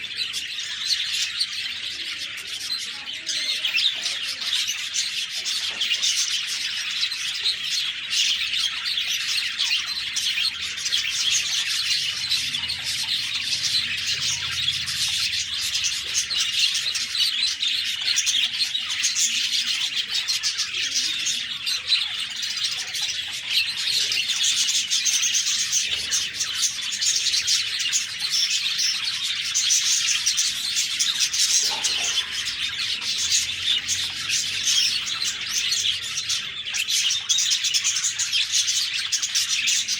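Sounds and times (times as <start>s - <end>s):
flock of budgerigars chirping: 0.0s - 39.9s.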